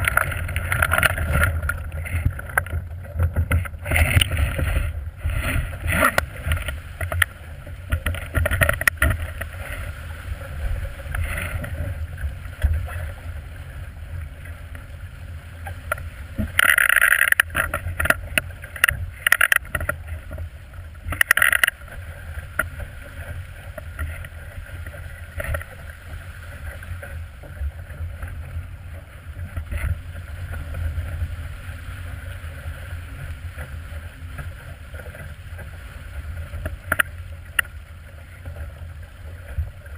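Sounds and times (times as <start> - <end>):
water rushing along hull: 0.0 - 39.9
water splashes: 0.0 - 39.9.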